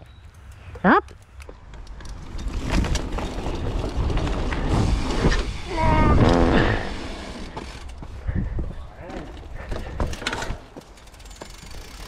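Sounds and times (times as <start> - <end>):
bike tyres rushing on dirt: 1.6 - 12.0.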